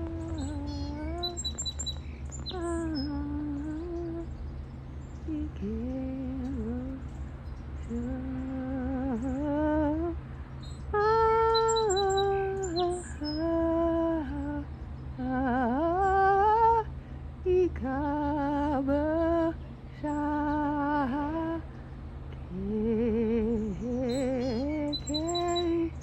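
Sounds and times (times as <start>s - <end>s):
woman humming a melody: 0.0s - 4.3s, 5.2s - 7.0s, 7.8s - 10.2s, 11.0s - 21.6s, 22.4s - 26.0s
songbird chirping: 0.0s - 26.0s.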